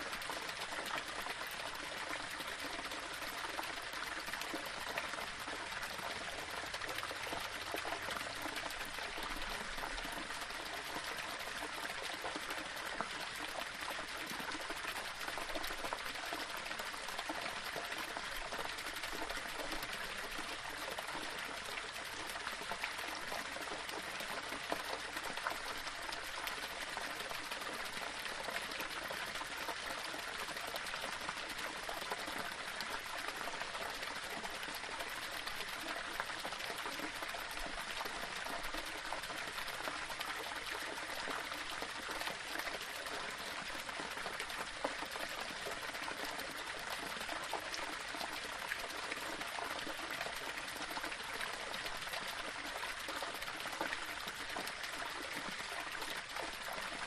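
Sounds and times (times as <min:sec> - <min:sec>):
small waterfall splashing: 0:00.0 - 0:57.0.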